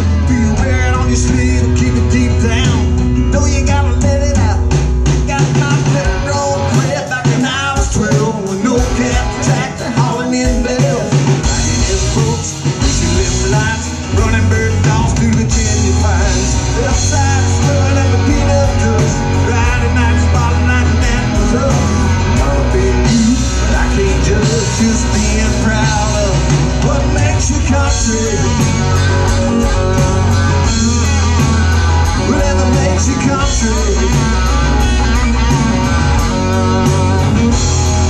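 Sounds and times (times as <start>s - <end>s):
country rock band playing: 0.0s - 38.0s
person singing: 0.0s - 38.0s.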